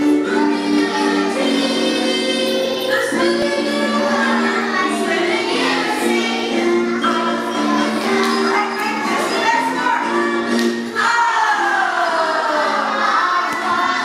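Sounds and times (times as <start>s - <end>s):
children singing: 0.0s - 14.0s
women singing: 0.0s - 14.0s.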